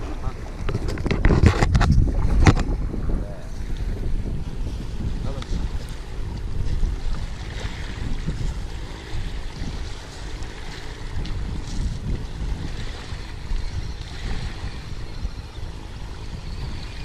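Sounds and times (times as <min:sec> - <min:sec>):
small waves washing on shore: 0:00.0 - 0:17.0
wind buffeting microphone: 0:00.0 - 0:17.0.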